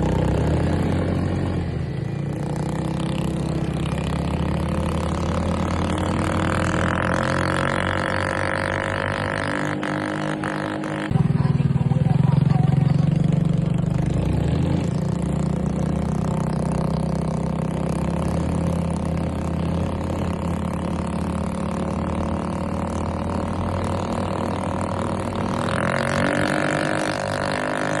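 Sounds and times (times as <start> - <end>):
small engine running and revving: 0.0 - 28.0.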